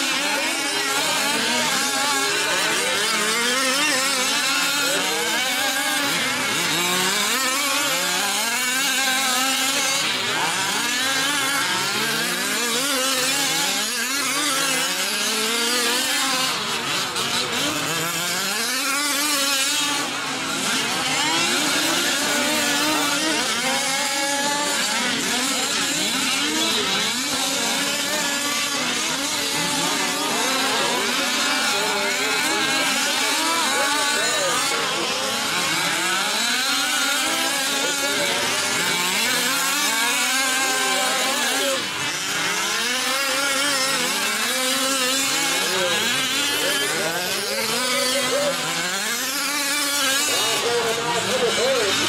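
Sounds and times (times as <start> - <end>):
small engines revving: 0.0 - 52.0.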